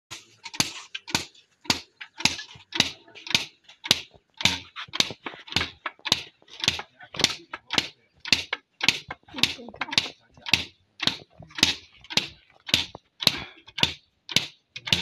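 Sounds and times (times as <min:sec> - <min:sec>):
sticks whacking fibre: 0:00.1 - 0:15.0.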